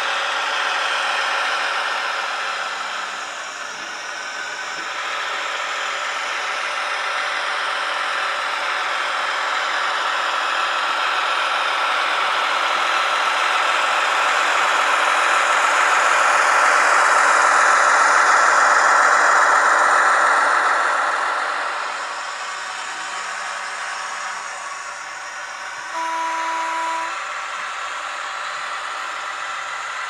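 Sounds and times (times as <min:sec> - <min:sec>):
model locomotive engine sound: 0:00.0 - 0:30.0.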